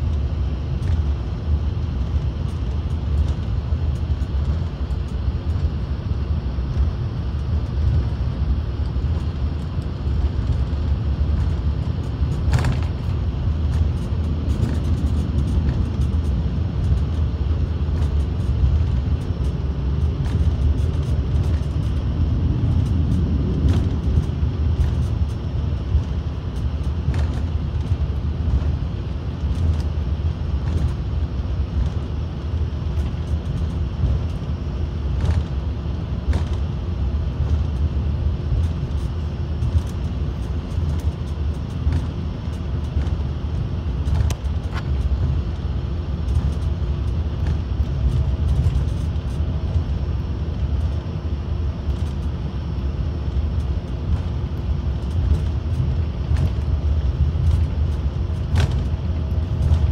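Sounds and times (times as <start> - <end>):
jet cabin engine rumble: 0.0 - 59.9.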